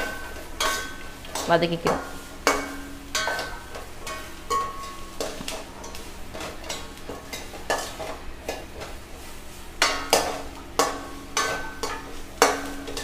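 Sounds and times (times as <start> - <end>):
faint sizzle: 0.0 - 13.0.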